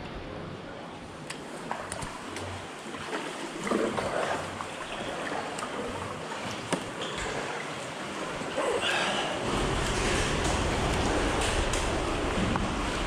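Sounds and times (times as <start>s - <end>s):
paddle strokes splashing water: 1.4s - 13.0s
water trickling off paddle: 1.4s - 13.0s.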